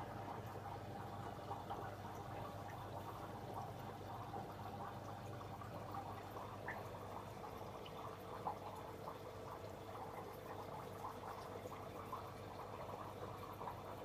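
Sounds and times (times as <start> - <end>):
aquarium water bubbling: 0.0 - 14.0
low steady hum: 0.0 - 14.0.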